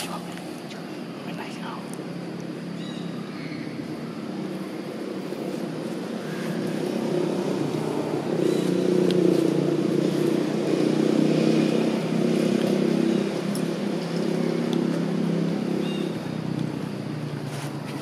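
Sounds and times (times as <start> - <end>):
motor engine running: 2.3 - 18.0.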